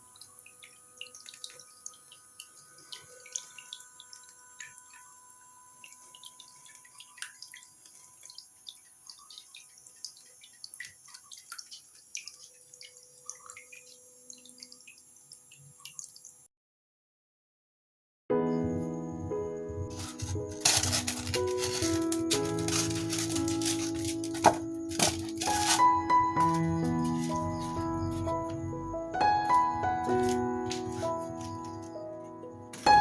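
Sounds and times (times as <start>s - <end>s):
water trickling and dripping: 0.0s - 16.5s, 19.9s - 33.0s.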